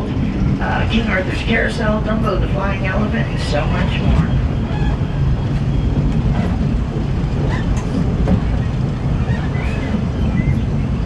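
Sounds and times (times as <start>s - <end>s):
steam train rumbling on track: 0.0s - 11.0s.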